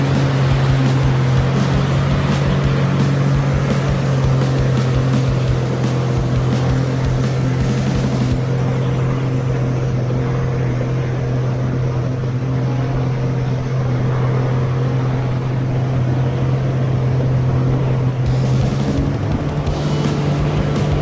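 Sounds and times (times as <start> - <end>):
jet ski engine droning: 0.0 - 21.0.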